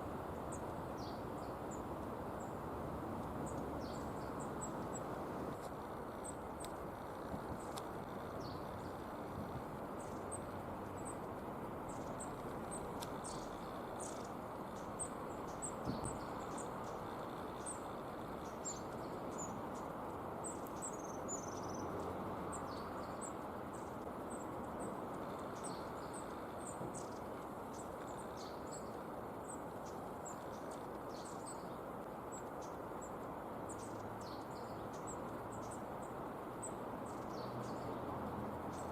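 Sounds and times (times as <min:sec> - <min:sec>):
long-tailed tits calling: 0:00.0 - 0:38.9.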